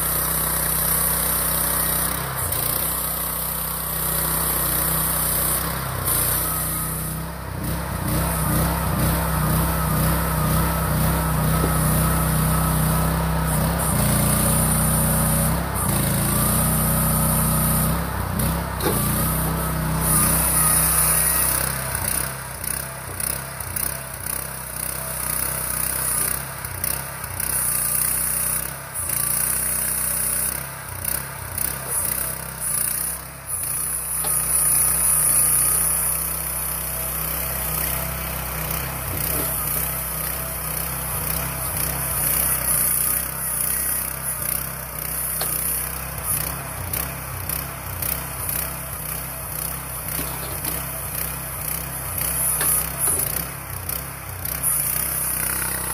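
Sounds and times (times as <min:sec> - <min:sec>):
mini excavator engine running: 0:00.0 - 0:55.9.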